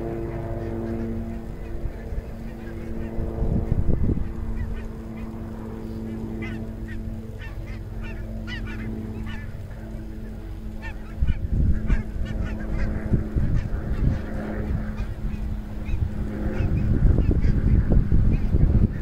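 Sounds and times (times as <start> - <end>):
geese honking: 0.0 - 17.8
low engine drone: 0.0 - 19.0
wind on microphone: 0.0 - 19.0.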